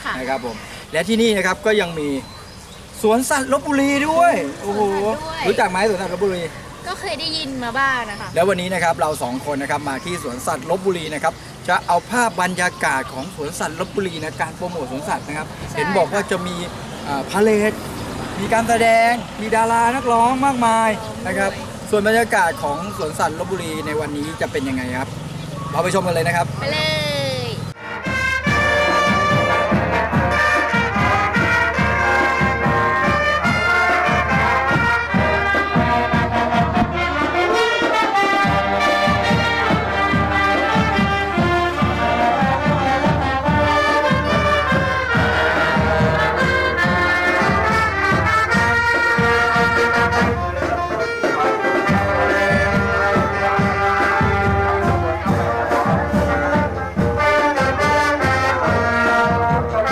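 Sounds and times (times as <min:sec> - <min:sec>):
brass music with steady beat: 0:00.0 - 0:59.9.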